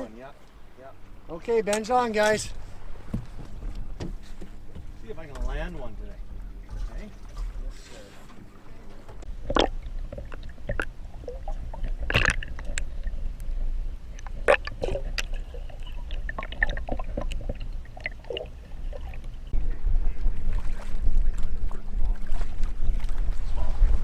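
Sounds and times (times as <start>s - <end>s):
steady low rumble: 0.0s - 24.0s
water splashing and sloshing: 0.0s - 24.0s.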